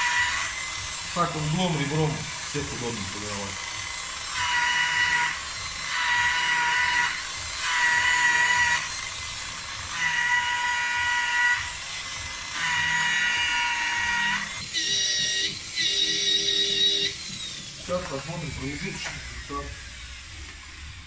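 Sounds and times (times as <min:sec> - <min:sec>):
rotary polisher whining: 0:00.0 - 0:21.0
steady motor noise: 0:00.0 - 0:21.0.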